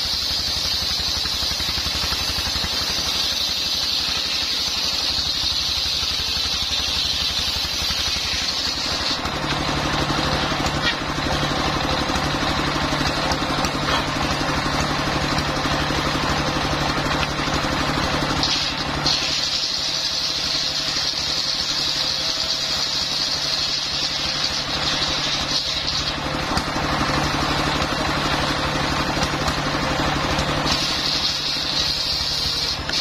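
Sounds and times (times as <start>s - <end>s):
diesel engine running: 0.0s - 33.0s
saw blade whining through wood: 0.0s - 33.0s.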